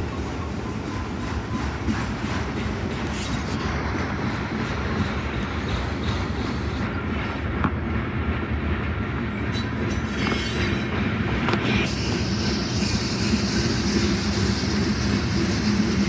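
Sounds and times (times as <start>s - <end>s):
steel wheels rumbling on rails: 0.0s - 16.0s.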